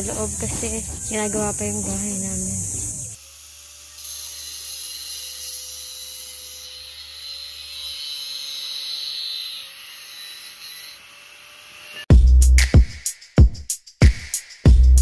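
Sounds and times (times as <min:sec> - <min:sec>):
angle grinder whining on steel: 0:00.0 - 0:12.1.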